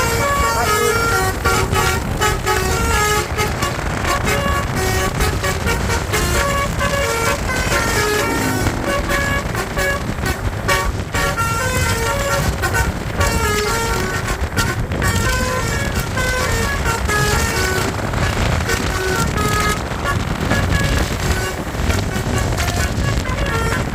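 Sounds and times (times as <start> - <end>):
engine and road rumble: 0.0 - 23.9
musical bus horn playing a tune: 0.0 - 23.9.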